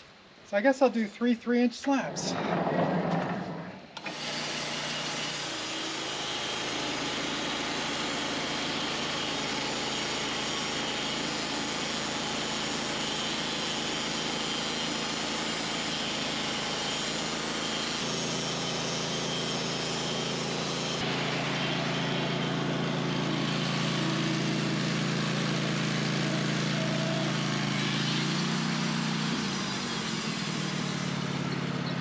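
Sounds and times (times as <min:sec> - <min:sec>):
band sawmill cutting log: 0:02.3 - 0:32.0.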